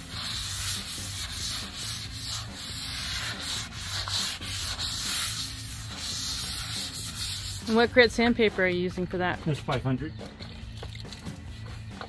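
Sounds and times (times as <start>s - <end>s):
wet sandpaper rasping: 0.0s - 9.8s, 11.1s - 12.0s.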